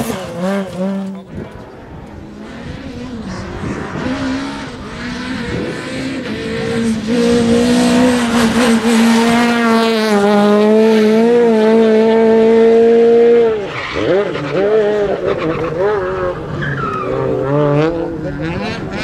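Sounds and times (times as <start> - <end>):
rally car engine at high revs: 0.0 - 19.0.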